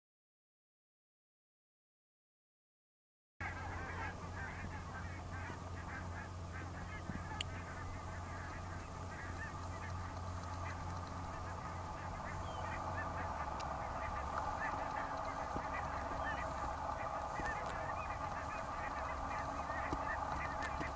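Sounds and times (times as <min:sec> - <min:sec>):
geese honking: 0:03.4 - 0:20.9
steady low hum: 0:03.4 - 0:20.9.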